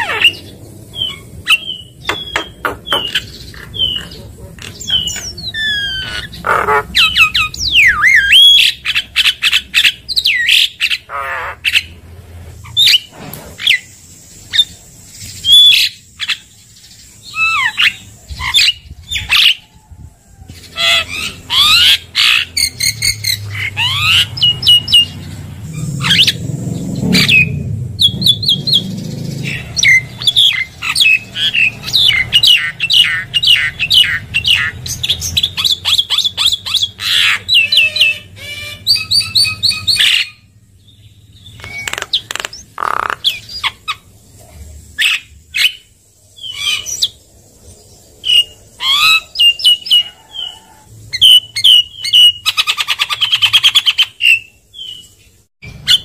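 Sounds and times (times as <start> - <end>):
bird singing: 0.0 - 12.0, 12.6 - 56.0.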